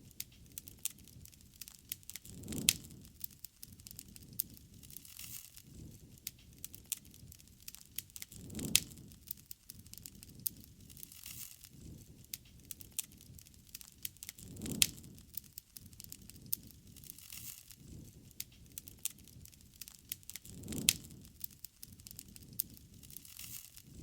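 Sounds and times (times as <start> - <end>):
campfire pops and snaps: 0.0 - 24.0
low rushing of fire: 0.0 - 24.0.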